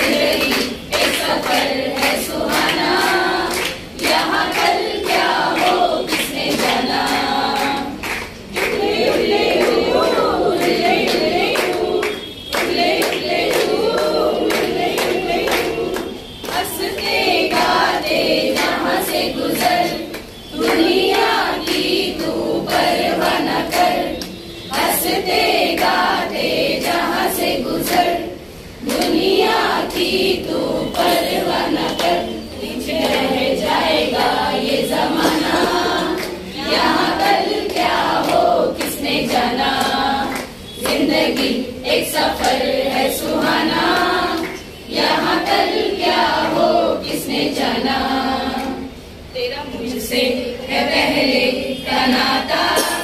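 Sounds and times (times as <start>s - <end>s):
women singing together: 0.0s - 53.0s.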